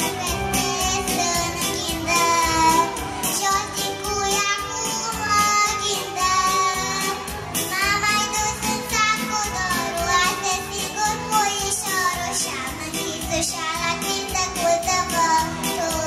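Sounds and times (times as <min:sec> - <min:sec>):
girl singing into microphone: 0:00.0 - 0:16.0
instrumental accompaniment with beat: 0:00.0 - 0:16.0.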